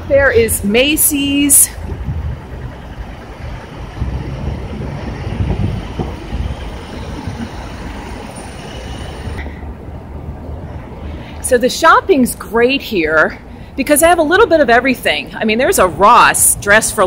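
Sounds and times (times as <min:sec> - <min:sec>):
large vehicles passing: 0:00.0 - 0:17.0
street traffic rumbling: 0:00.0 - 0:17.0.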